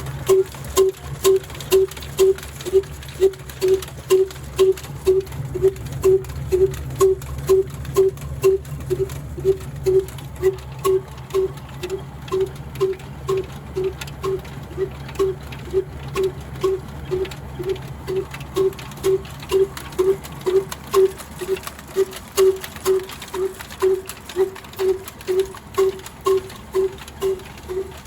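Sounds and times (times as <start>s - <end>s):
diesel engine running: 0.0s - 28.0s
engine sharp clicks: 0.0s - 28.0s.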